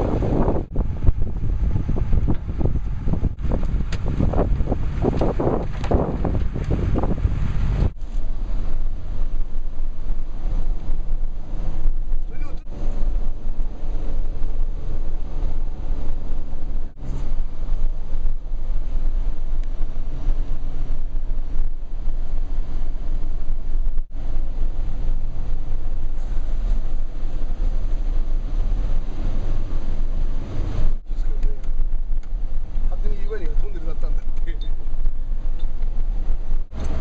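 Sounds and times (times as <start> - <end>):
road and engine rumble in car: 0.0 - 37.0.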